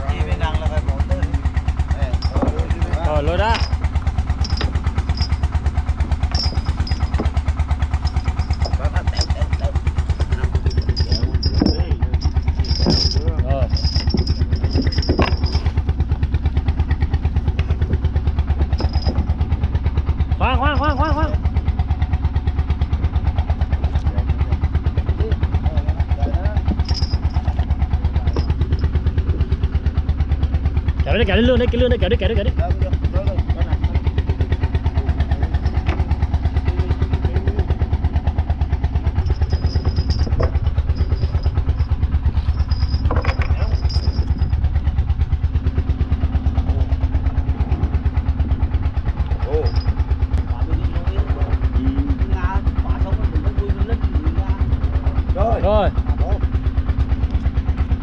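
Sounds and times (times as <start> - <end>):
boat engine chugging: 0.0 - 58.0.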